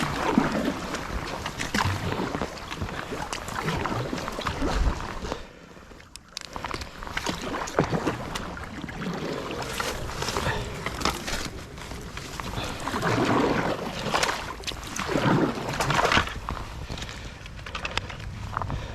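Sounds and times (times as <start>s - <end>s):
water washing: 0.0s - 5.6s, 6.6s - 17.0s
paddle strokes splashing: 0.0s - 17.4s.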